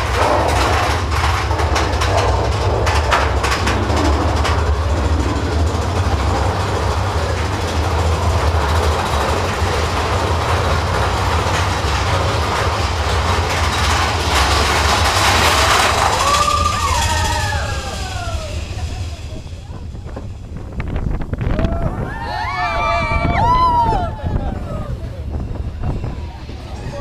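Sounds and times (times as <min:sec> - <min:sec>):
sharp track clacks: 0:00.0 - 0:21.7
roller coaster wheels rumbling: 0:00.0 - 0:27.0.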